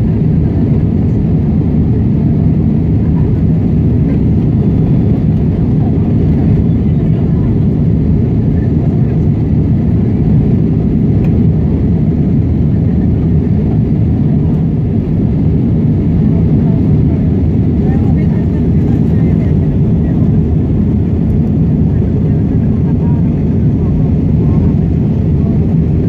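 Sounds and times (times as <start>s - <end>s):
jet engine cabin roar: 0.0s - 26.0s.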